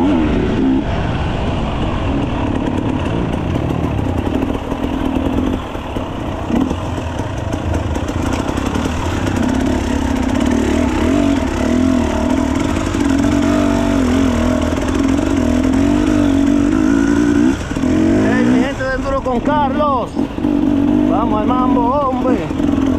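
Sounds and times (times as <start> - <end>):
dirt bike engine running: 0.0 - 22.9.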